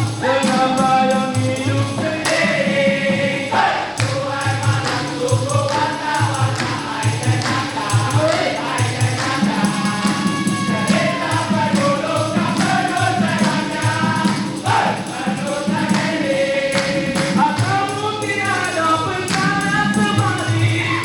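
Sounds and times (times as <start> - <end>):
group of voices singing: 0.0 - 21.0
steady drumbeat: 0.0 - 21.0.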